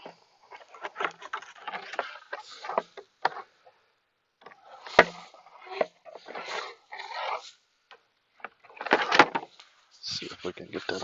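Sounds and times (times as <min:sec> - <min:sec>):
scraping rustles: 0:00.0 - 0:03.8, 0:04.4 - 0:11.0.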